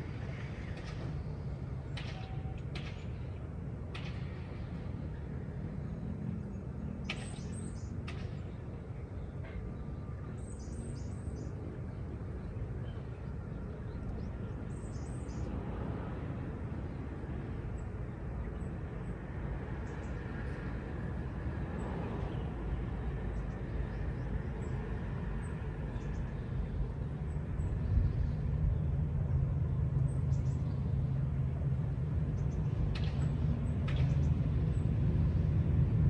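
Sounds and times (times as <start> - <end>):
low engine rumble: 0.0 - 36.0.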